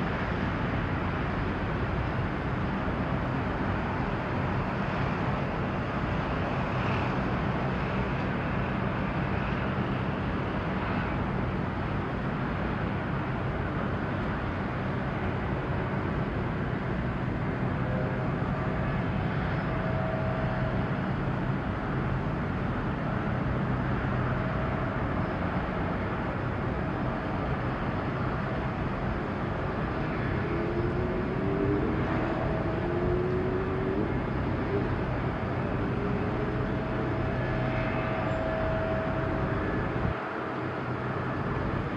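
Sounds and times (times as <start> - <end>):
low engine drone: 0.0 - 41.9.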